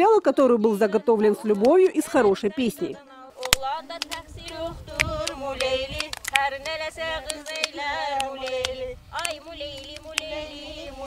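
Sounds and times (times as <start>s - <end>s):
women singing slow song: 0.0s - 11.0s.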